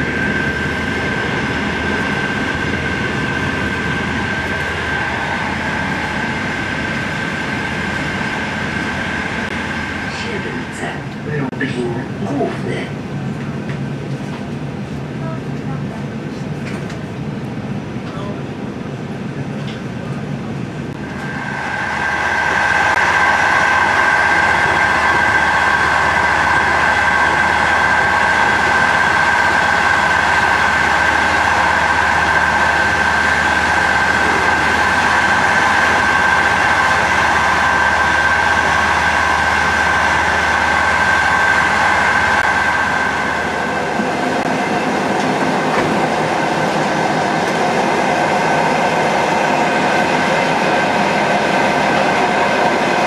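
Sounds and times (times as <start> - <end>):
high-pitched whine: 0.0 - 11.0, 21.0 - 53.0
train running noise: 0.0 - 53.0.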